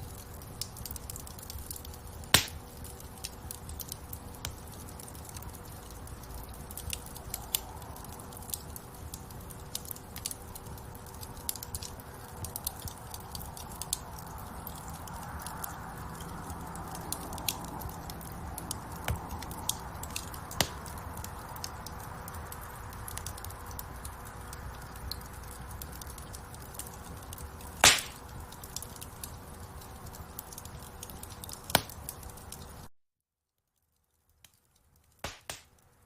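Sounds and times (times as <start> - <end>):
wood fire crackling: 0.0 - 32.9, 33.6 - 36.0
fire popping loudly: 0.1 - 32.9, 34.4 - 35.9.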